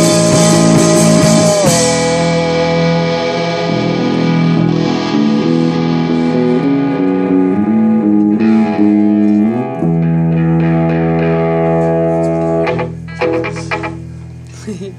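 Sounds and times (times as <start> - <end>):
electric guitar notes: 0.0 - 14.9.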